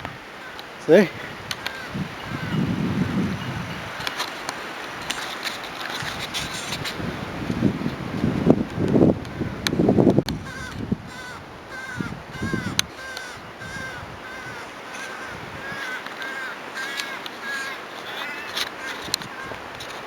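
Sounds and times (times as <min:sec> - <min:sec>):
crow calling: 0:00.0 - 0:07.1, 0:09.1 - 0:20.0.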